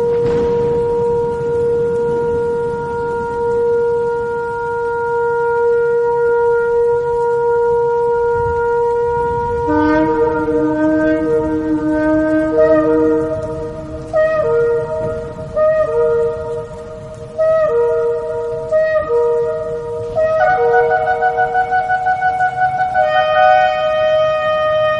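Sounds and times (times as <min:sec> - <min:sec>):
lower horn note: 0:00.0 - 0:24.9
ram's horn blast: 0:00.0 - 0:24.9.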